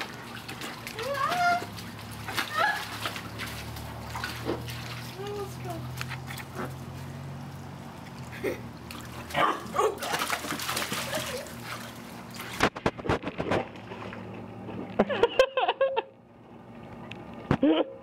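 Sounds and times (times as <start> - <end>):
water splashing in a pool: 0.0 - 15.2.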